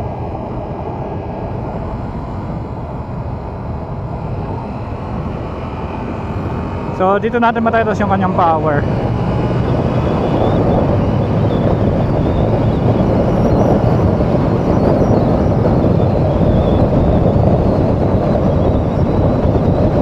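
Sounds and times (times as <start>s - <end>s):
road noise: 0.0s - 20.0s
wind rushing: 0.0s - 20.0s
motorcycle engine: 2.4s - 20.0s.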